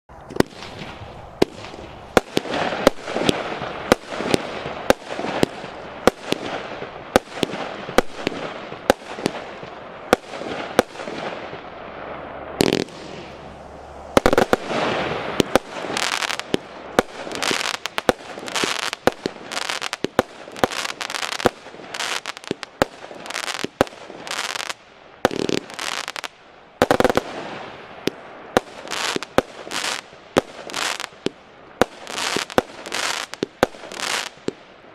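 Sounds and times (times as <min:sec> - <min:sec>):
crackling firework stars: 0:00.1 - 0:34.9.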